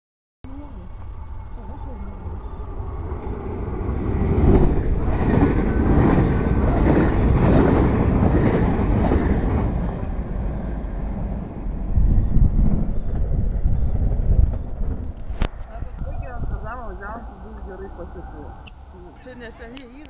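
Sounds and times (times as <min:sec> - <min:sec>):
passenger train passing: 0:00.5 - 0:20.0.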